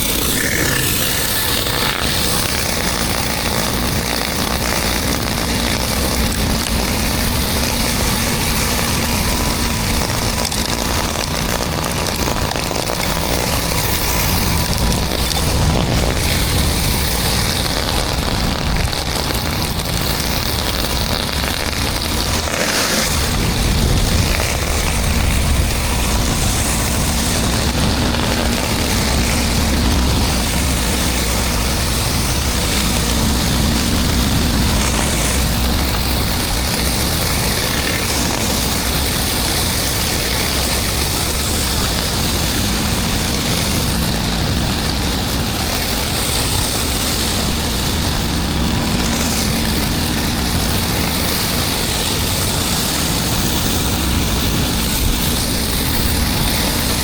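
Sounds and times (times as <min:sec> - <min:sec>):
pressure washer engine running: 0:00.0 - 0:57.0
water spraying onto concrete: 0:00.0 - 0:57.0.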